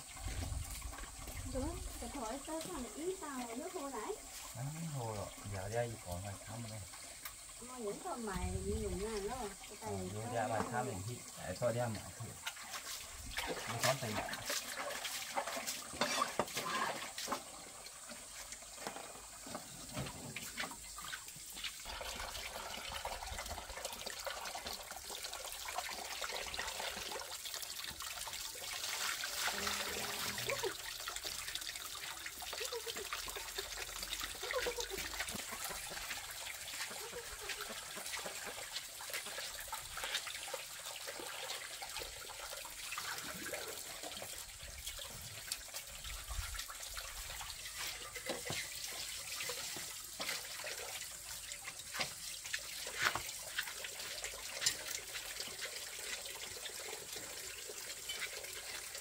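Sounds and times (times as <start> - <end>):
water splashing into plastic basins: 0.0 - 59.0.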